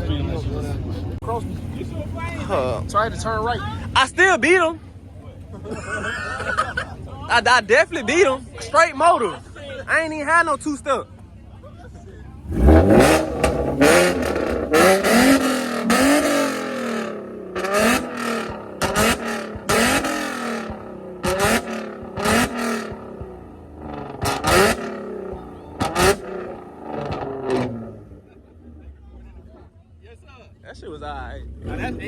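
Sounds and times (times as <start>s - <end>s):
car engine revving: 0.0s - 11.4s, 12.3s - 32.0s
exhaust popping and backfiring: 0.0s - 32.0s.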